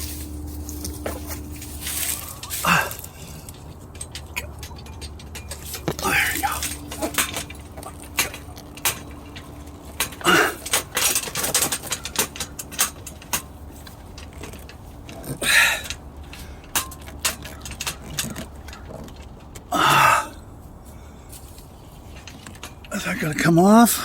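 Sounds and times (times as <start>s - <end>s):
metallic clicks and rattles of tools: 0.0s - 20.5s, 21.3s - 24.0s.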